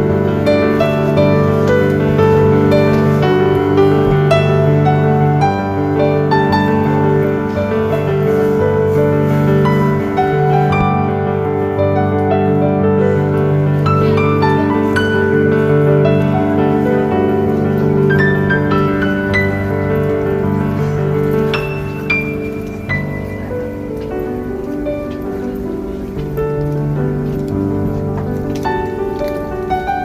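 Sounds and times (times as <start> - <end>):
piano playing single notes: 0.0 - 30.0.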